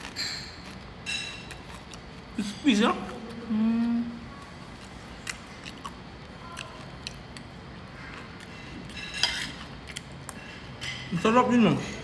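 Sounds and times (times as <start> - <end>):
mouth chewing crispy food: 0.0 - 10.5.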